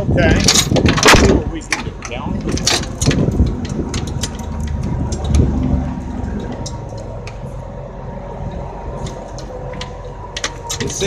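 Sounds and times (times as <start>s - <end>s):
low steady rumble: 0.0s - 11.0s
metal chain clinking and rattling: 0.2s - 7.5s, 9.0s - 11.0s.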